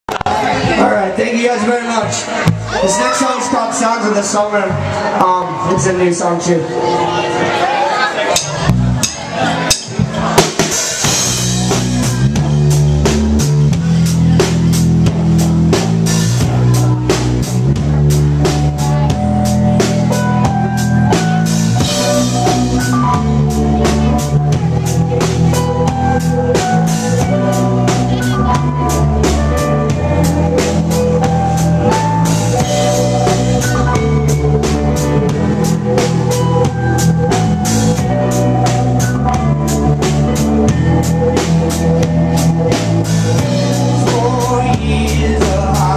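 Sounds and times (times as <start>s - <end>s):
rock band playing live: 0.1s - 45.9s.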